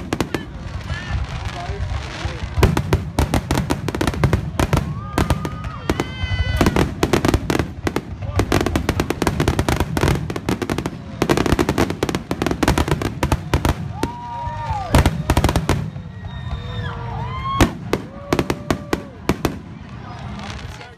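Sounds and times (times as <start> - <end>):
fireworks bangs: 0.0 - 20.9
fireworks crackling bursts: 0.0 - 20.9.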